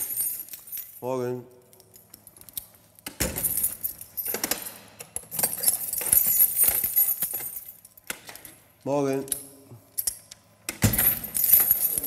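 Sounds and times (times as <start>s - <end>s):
keys jangling: 0.0s - 1.0s, 1.6s - 8.6s, 9.3s - 12.0s.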